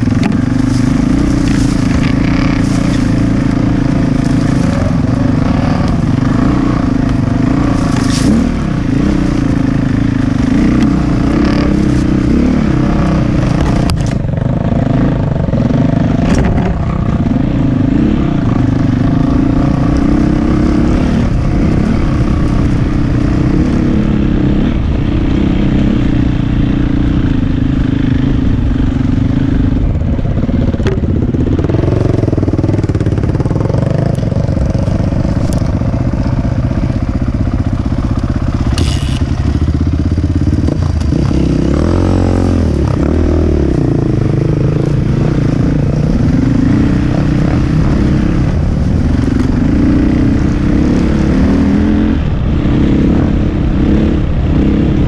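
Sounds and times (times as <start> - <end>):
dirt bike engine revving: 0.0 - 55.0
second dirt bike running: 0.0 - 55.0.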